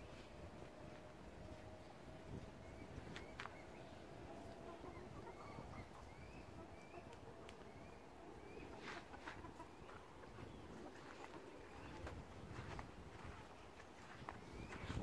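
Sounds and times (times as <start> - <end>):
faint steady hum: 0.0 - 15.0
small birds chirping: 2.1 - 15.0.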